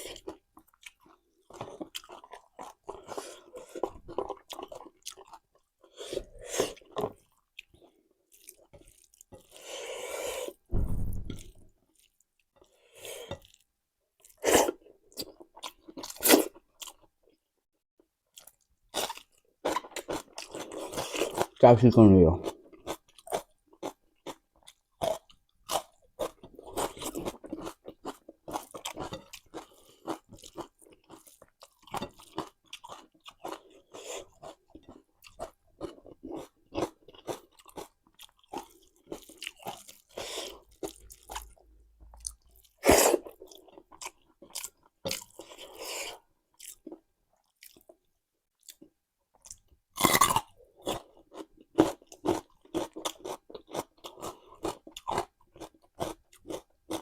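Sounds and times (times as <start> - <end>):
chewing crunchy raw vegetables: 0.0 - 9.8, 18.2 - 21.6, 22.3 - 57.0.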